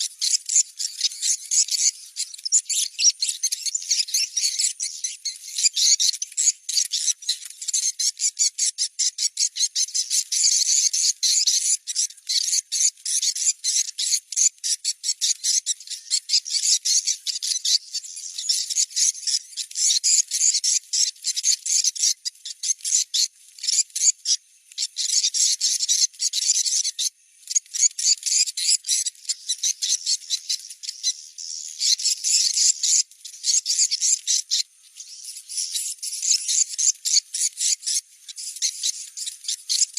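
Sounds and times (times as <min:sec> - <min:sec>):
swiftlets twittering chirps: 0:00.0 - 0:39.9.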